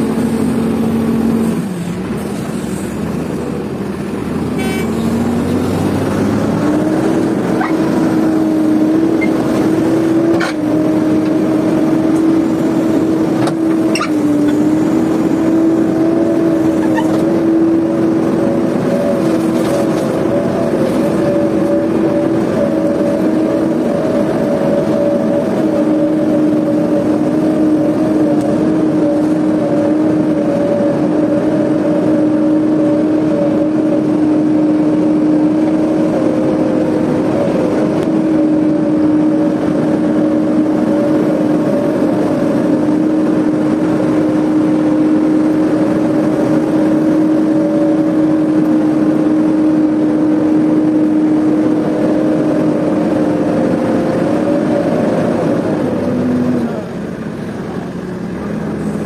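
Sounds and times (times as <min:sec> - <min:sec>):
diesel engine revving under load: 0:00.0 - 0:59.0.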